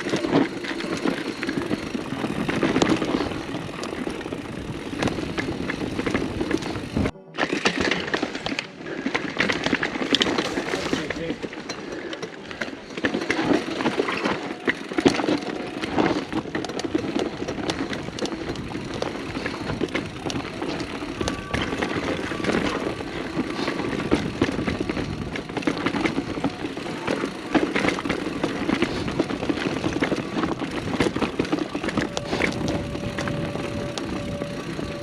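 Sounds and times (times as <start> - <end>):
bike rattling over bumps: 0.0 - 35.0
tyres crunching over dirt and rocks: 0.0 - 35.0.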